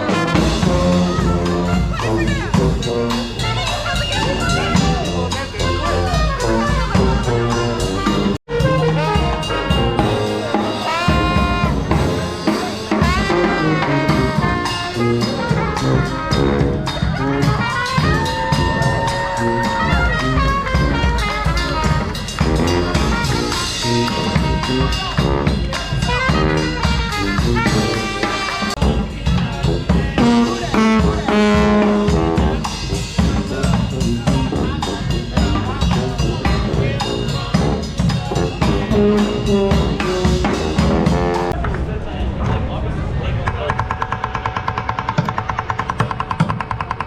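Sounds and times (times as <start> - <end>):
horns: 0.0 - 41.6
street band playing jazz: 0.0 - 41.6
drum kit: 0.0 - 41.8.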